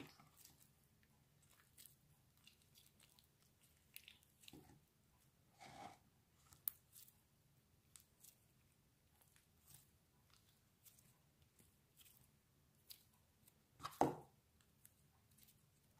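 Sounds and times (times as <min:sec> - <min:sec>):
slime squelches: 0:00.0 - 0:15.9.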